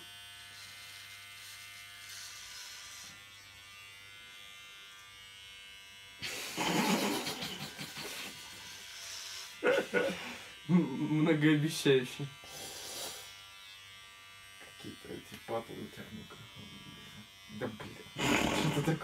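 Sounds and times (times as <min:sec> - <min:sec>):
electric hair clippers buzzing: 0:00.0 - 0:19.0.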